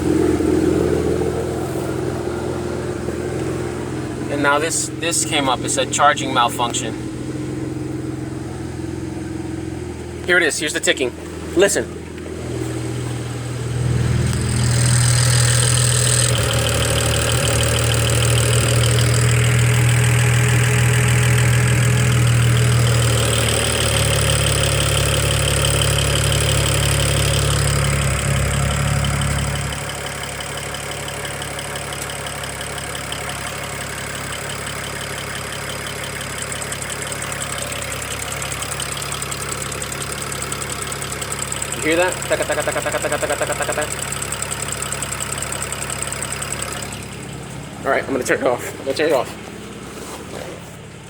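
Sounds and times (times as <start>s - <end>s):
fast even engine ticking: 0.0s - 49.8s
car engine idling: 0.0s - 51.0s.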